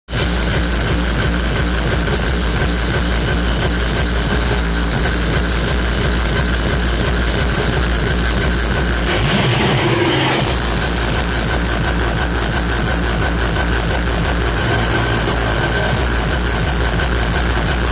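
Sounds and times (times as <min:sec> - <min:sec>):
distorted kick drum pounding: 0:00.1 - 0:17.9
hardcore techno over a pa: 0:00.1 - 0:17.9.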